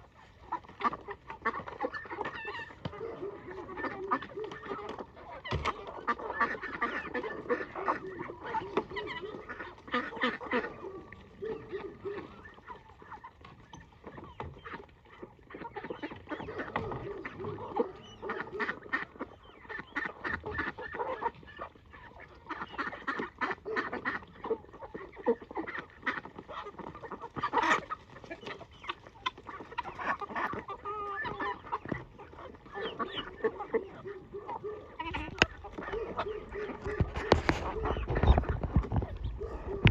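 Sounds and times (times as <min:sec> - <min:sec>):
poultry calling: 0:00.0 - 0:39.9.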